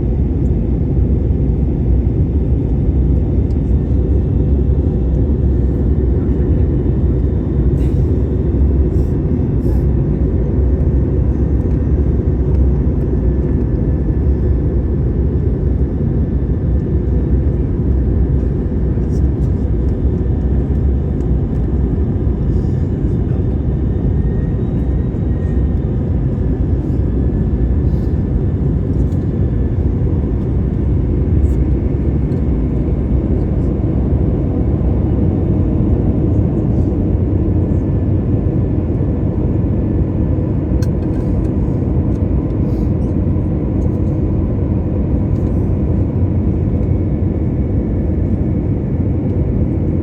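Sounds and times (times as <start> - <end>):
airliner cabin engine rumble: 0.0 - 50.0.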